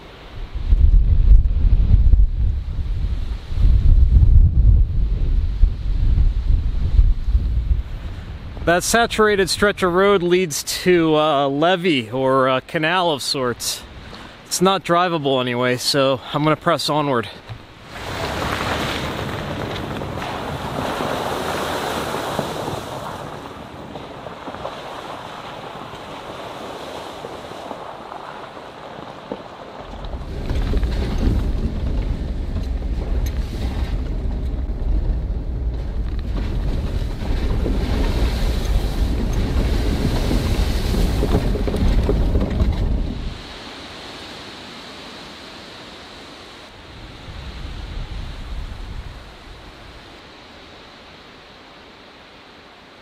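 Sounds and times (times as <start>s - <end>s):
gusty wind on microphone: 0.0s - 10.2s, 17.4s - 45.8s, 46.5s - 51.6s.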